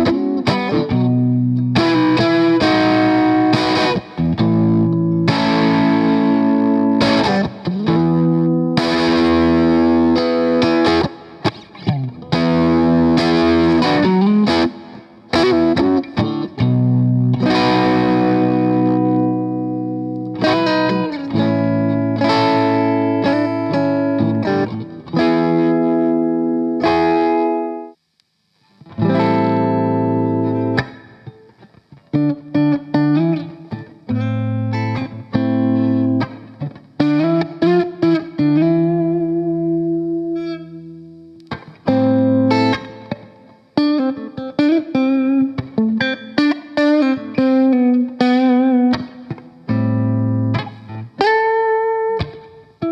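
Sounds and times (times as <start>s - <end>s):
distorted electric guitar chords: 0.0s - 52.9s.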